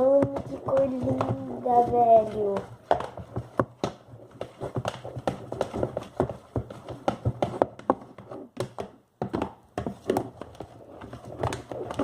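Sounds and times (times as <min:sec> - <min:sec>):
slime stirred sticky pops: 0:00.0 - 0:12.0.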